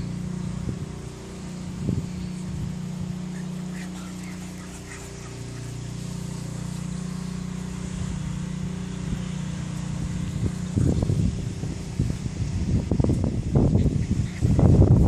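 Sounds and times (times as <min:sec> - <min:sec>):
engine motor hum: 0:00.0 - 0:15.0.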